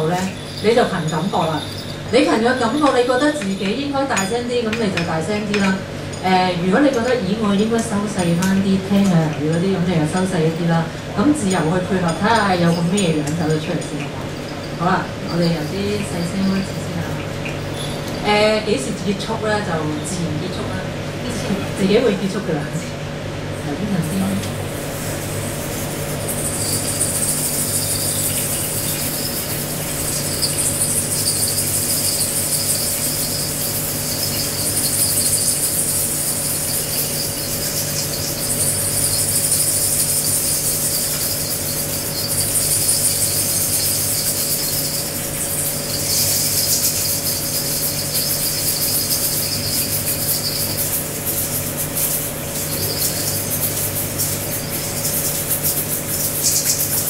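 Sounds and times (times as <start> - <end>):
egg shakers rattling: 0.0 - 9.6, 11.4 - 18.4, 24.6 - 57.0.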